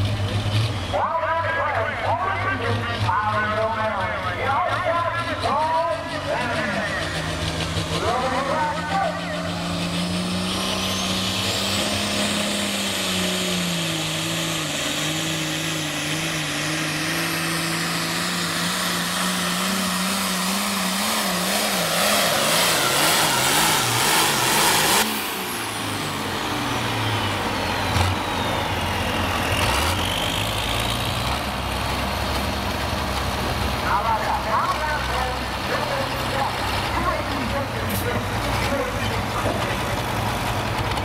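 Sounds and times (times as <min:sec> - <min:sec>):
diesel tractor engine running flat out: 0:00.0 - 0:41.0.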